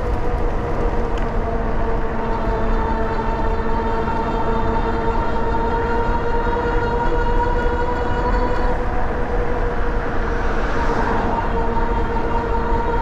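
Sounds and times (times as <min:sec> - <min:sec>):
constant low rumble: 0:00.0 - 0:13.0.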